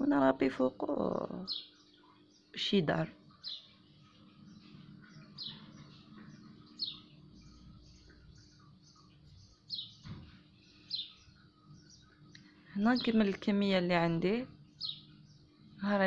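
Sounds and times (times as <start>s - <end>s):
bird chirping: 0.0s - 16.0s
faint steady hum: 0.0s - 16.0s.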